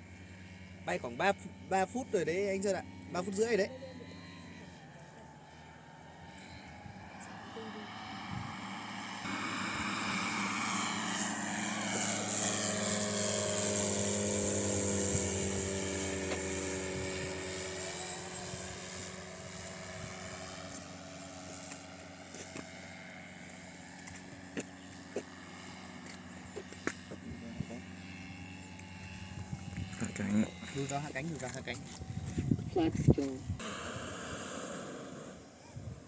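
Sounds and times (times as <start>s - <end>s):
model plane propeller drone: 0.0s - 36.0s.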